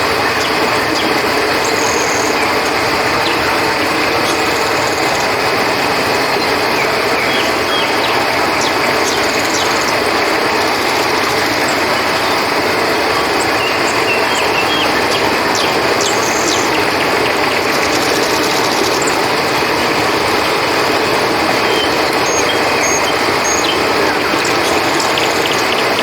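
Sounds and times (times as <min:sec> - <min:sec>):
crickets droning: 0:00.0 - 0:26.0
river rushing: 0:00.0 - 0:26.0.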